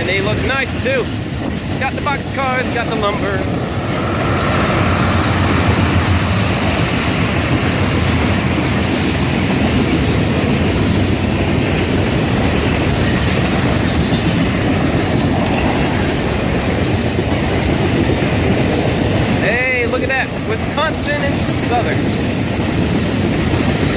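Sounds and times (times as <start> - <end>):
freight train wheels rumbling: 0.0 - 23.9
train wheels clickety-clack: 0.0 - 23.9.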